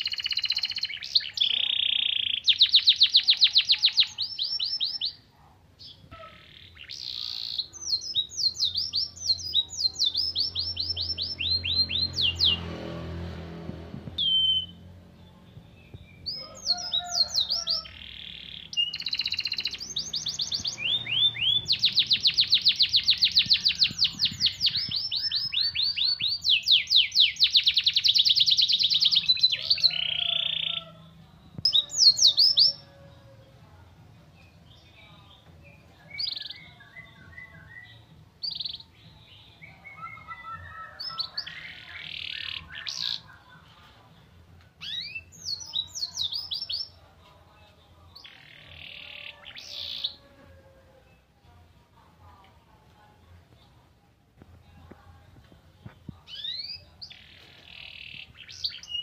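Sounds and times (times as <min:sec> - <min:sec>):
canary singing trills: 0:00.0 - 0:12.8, 0:14.1 - 0:33.5, 0:34.4 - 0:43.9, 0:44.8 - 0:47.0, 0:48.0 - 0:50.4, 0:56.2 - 0:59.0.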